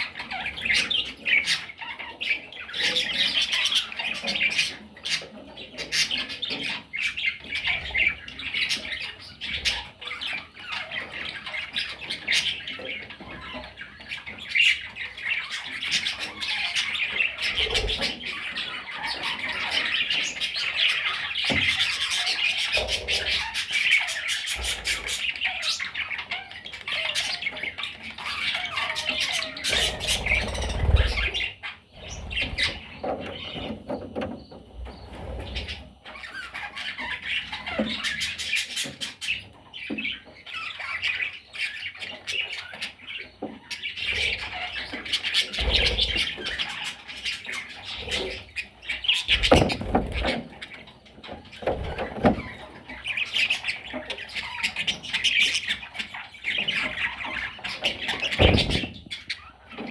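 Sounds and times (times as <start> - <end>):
budgerigars chattering and squawking: 0.0 - 59.9.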